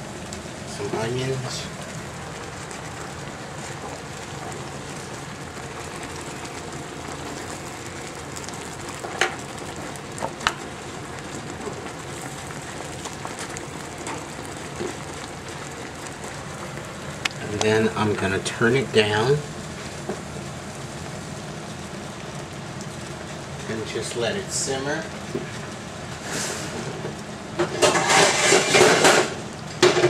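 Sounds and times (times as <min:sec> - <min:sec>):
gravy bubbling in skillet: 0:00.0 - 0:30.0.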